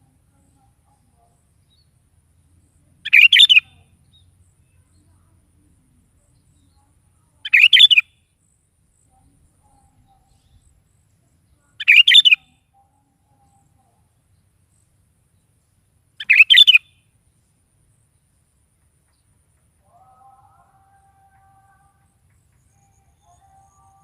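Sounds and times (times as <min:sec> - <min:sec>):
bulbul singing: 0:00.0 - 0:24.0.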